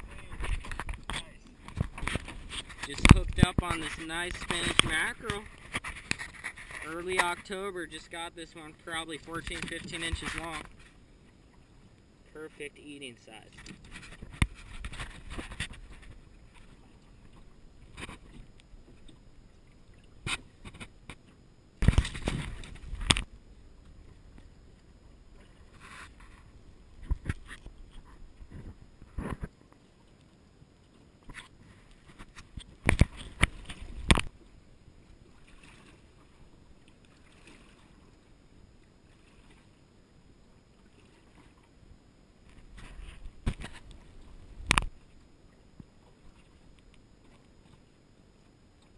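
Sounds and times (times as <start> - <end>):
water lapping around a boat: 0.0 - 48.9.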